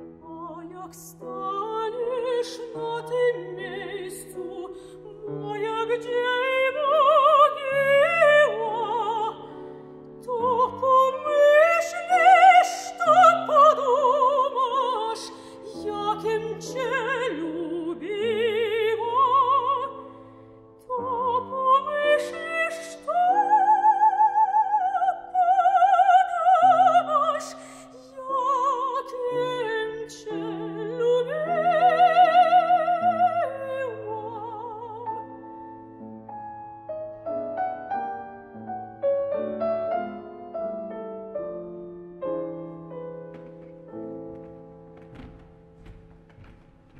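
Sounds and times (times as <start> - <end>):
grand piano accompaniment: 0.0 - 46.9
soprano singing classical song: 0.0 - 46.9.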